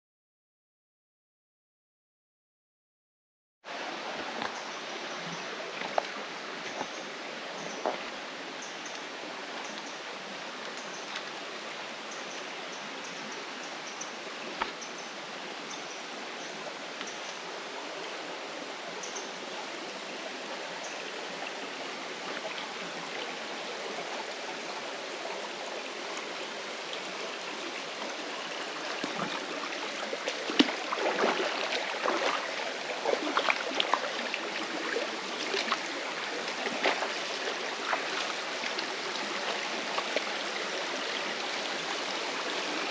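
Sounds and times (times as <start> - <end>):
stream rushing over rocks: 3.7 - 42.9.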